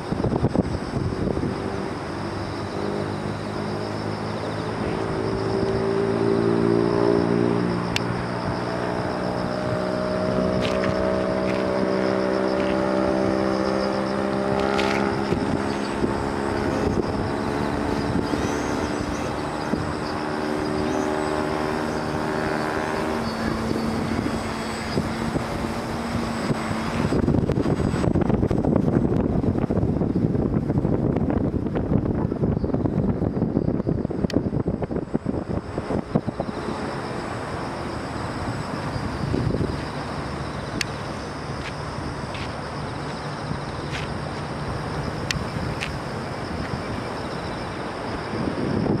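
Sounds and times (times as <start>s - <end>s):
electric motor and propeller hum: 0.0s - 49.0s
wind noise on microphone: 0.0s - 49.0s.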